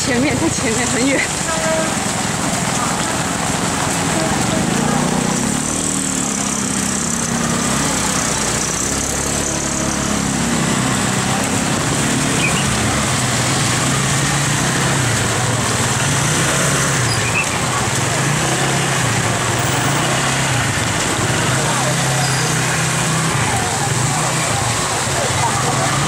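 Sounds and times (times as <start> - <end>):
heavy rain hissing: 0.0 - 26.0
scooter engines idling: 0.0 - 26.0.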